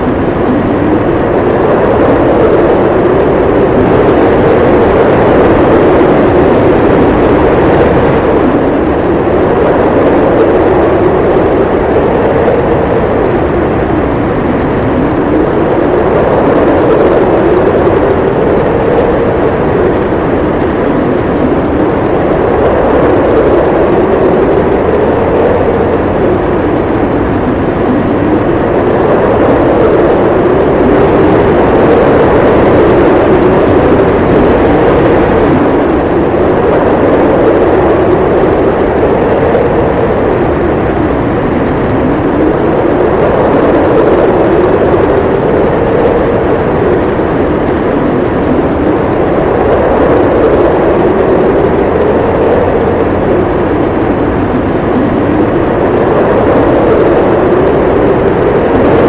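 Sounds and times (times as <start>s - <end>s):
howling wind of a snowstorm: 0.0s - 59.0s.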